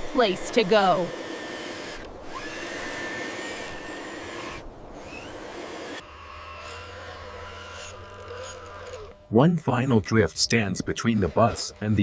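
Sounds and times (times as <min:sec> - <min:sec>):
snow-clearing machine motor whirring: 0:00.0 - 0:12.0.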